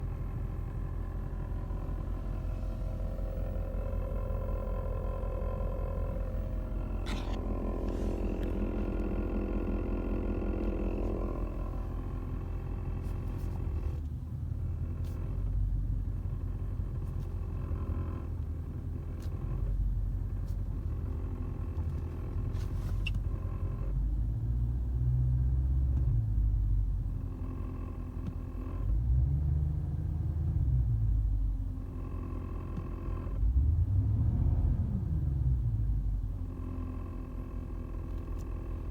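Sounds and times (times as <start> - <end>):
car engine idling rumble: 0.0 - 38.9.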